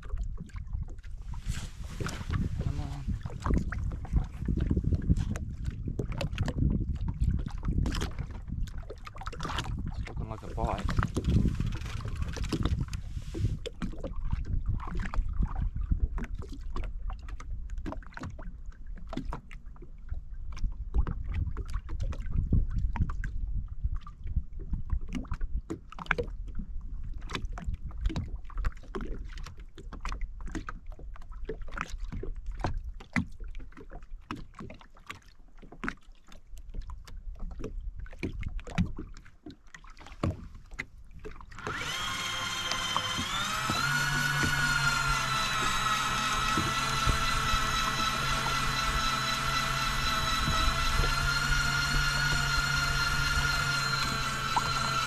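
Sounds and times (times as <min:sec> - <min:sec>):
waves slapping against hull: 0:00.0 - 0:55.0.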